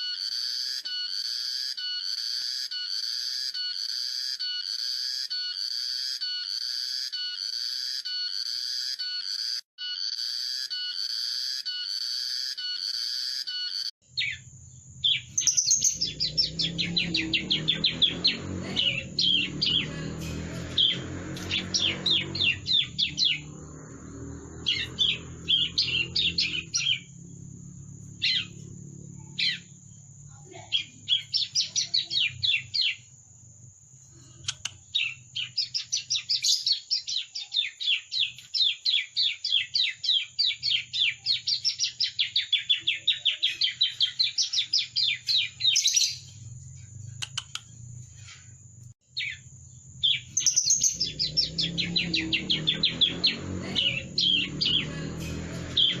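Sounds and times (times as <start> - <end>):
bird chirping and trilling: 0.0 - 33.1, 34.2 - 48.4, 49.1 - 56.0.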